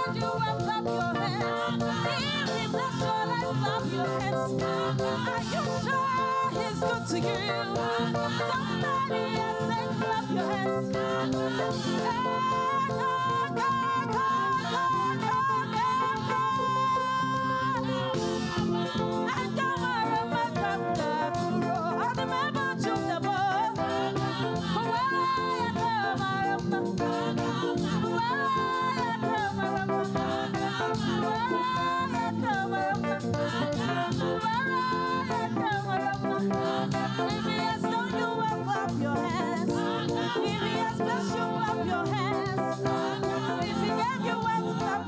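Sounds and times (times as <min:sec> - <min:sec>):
live band with percussion: 0:00.0 - 0:45.0
person singing gospel: 0:00.0 - 0:45.0.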